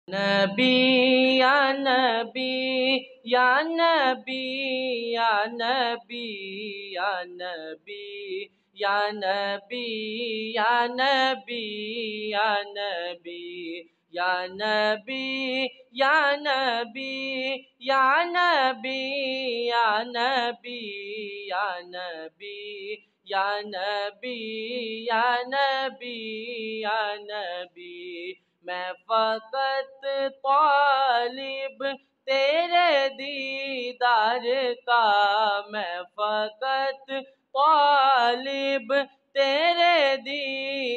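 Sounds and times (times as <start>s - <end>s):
boy singing unaccompanied: 0.1s - 40.9s.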